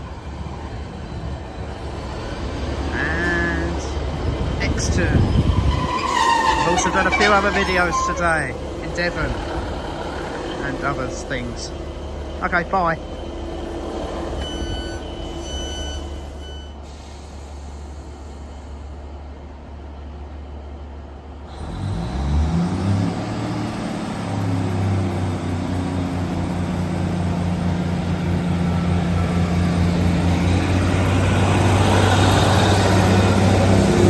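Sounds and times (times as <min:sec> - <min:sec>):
train diesel engines droning: 0:00.0 - 0:34.0.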